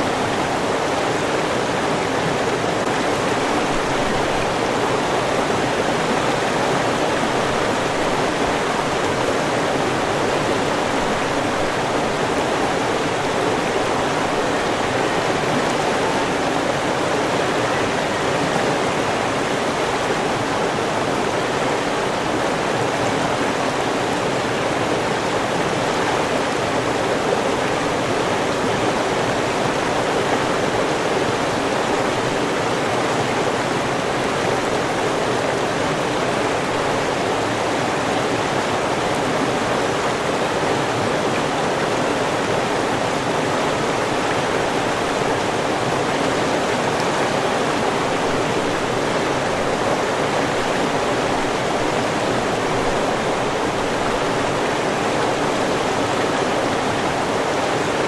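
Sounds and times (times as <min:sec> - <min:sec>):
river water flowing over rocks: 0:00.0 - 0:58.0.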